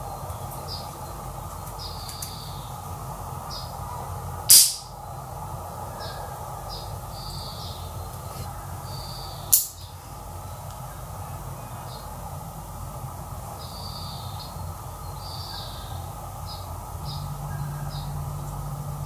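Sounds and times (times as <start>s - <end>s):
birds chirping: 0.0s - 12.3s, 13.5s - 19.0s
low steady drone: 0.0s - 19.0s
steady background hum: 0.0s - 19.0s.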